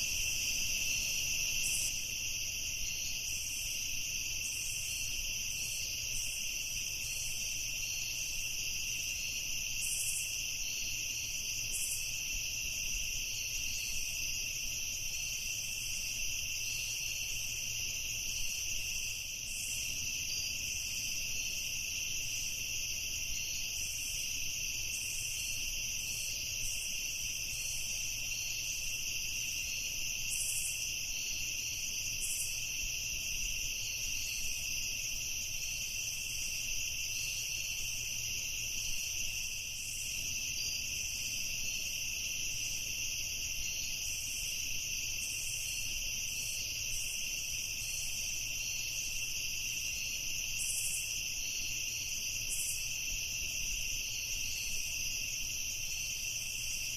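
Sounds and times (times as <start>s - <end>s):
crickets trilling: 0.0s - 56.9s
insects buzzing: 0.0s - 56.9s.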